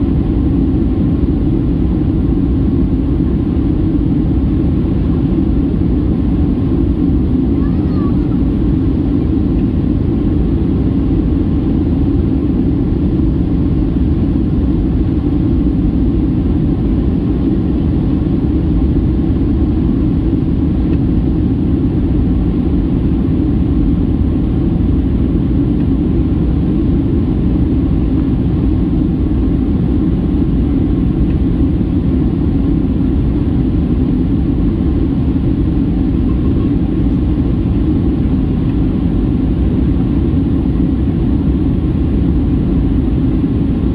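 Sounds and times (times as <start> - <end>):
airplane cabin engine rumble: 0.0 - 43.9.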